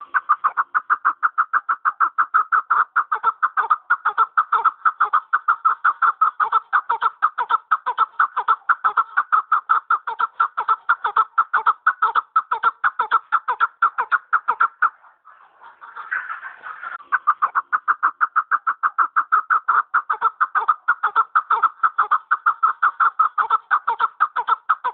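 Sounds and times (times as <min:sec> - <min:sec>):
partridge clucking calls: 0:00.0 - 0:24.9.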